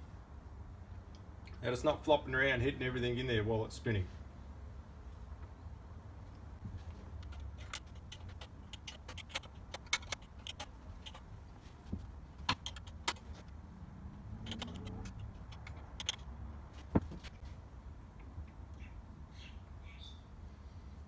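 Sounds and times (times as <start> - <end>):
low steady rumble: 0.0 - 18.8.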